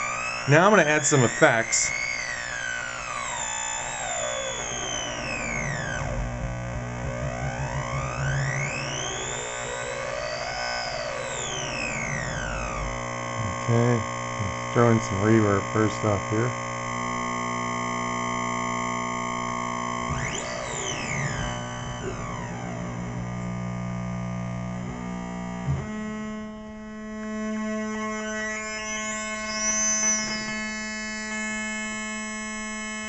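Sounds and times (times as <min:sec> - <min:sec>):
buzzy electronic drone: 0:00.0 - 0:33.0.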